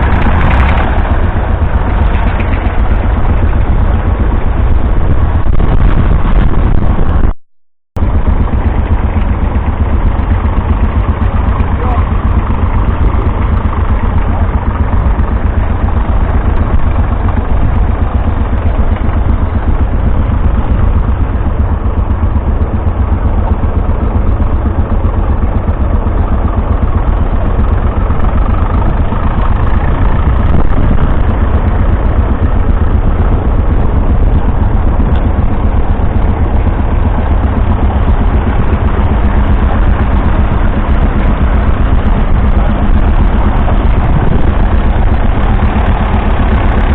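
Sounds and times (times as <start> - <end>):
tractor engine running: 0.0 - 7.4, 8.0 - 46.9.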